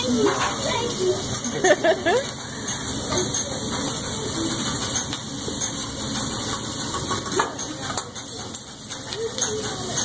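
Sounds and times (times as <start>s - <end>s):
food sizzling on a griddle: 0.0s - 10.0s.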